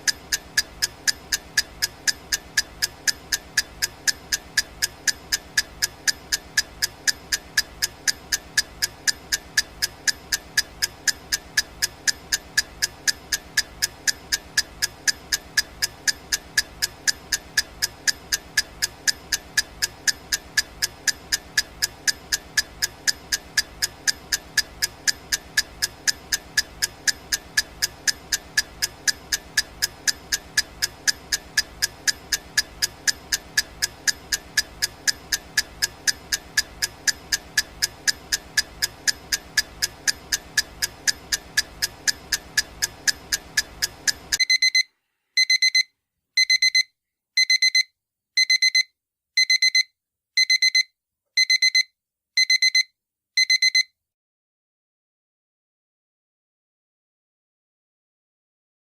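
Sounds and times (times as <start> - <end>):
countdown timer ticking: 0.0 - 53.9
electronic alarm clock beeping: 0.0 - 53.9.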